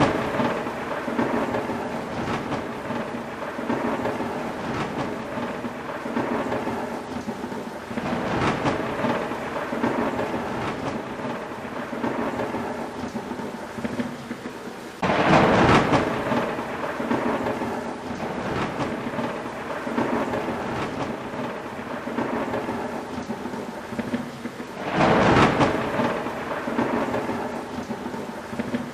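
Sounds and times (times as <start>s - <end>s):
loud thunder claps: 0.0s - 28.9s
rolling thunder: 0.0s - 28.9s
steady rain: 0.0s - 28.9s.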